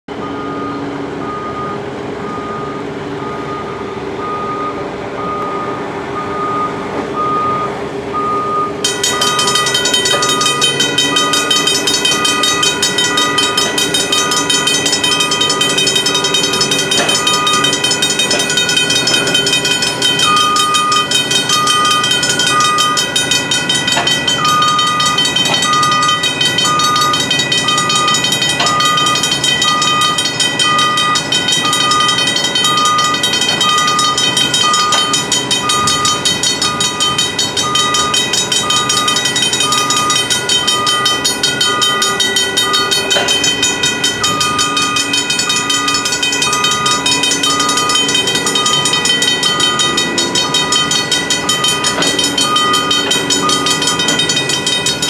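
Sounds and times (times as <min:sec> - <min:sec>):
crossing bells clanging: 0:00.1 - 0:55.0
engine running: 0:00.1 - 0:55.0
backup alarm beeping: 0:00.2 - 0:55.0.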